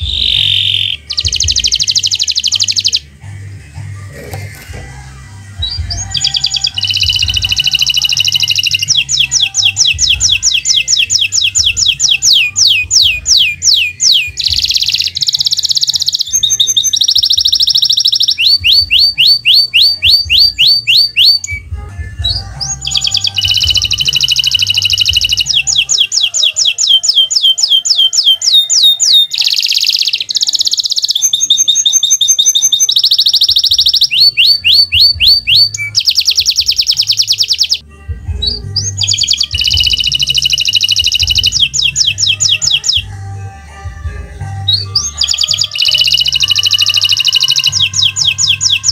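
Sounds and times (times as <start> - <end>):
low background beat: 0.0 - 15.0, 16.3 - 28.5, 33.3 - 48.9
canary singing trills: 0.0 - 48.9.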